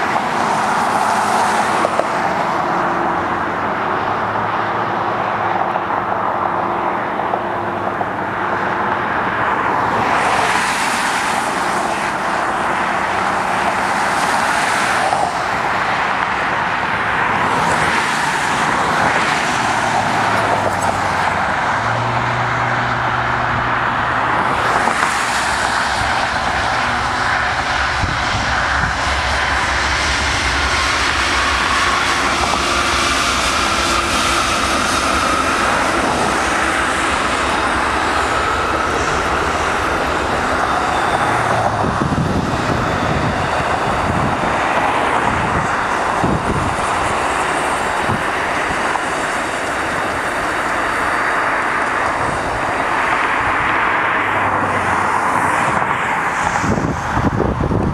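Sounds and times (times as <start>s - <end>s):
cars passing on wet road: 0.0s - 57.9s
locomotive diesel engines droning: 0.0s - 57.9s.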